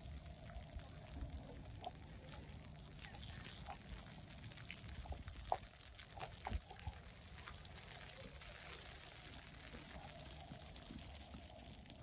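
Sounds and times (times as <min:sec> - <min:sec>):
low steady city rumble: 0:00.0 - 0:12.0.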